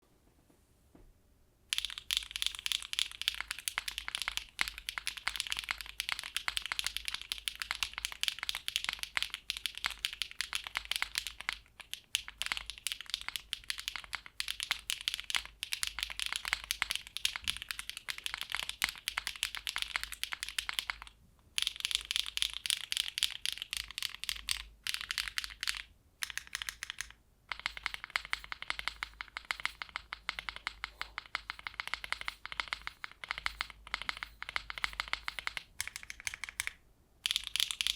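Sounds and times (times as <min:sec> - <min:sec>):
fast typing on mechanical keyboard: 0:01.7 - 0:37.9.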